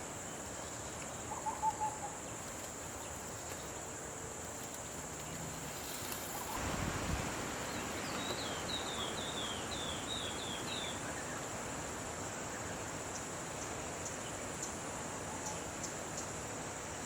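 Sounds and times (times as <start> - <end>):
insect drone: 0.0 - 17.0
even hiss: 2.0 - 17.0.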